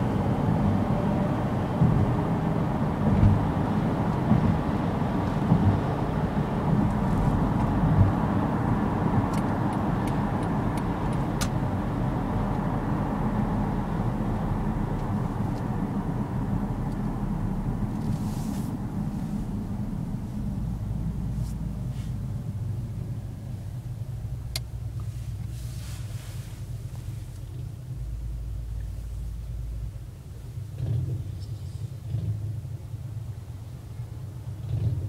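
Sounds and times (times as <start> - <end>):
car cabin road and engine noise: 0.0 - 35.0.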